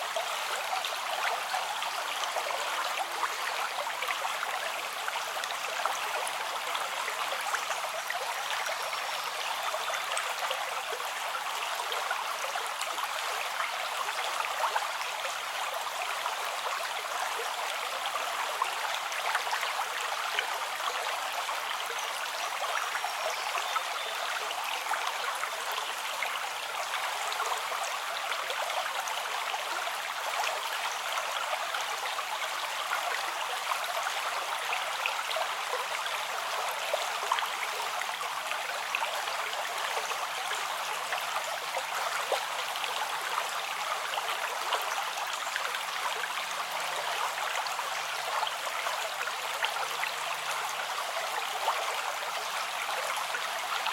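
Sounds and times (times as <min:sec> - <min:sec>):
stream of running water: 0:00.0 - 0:53.9.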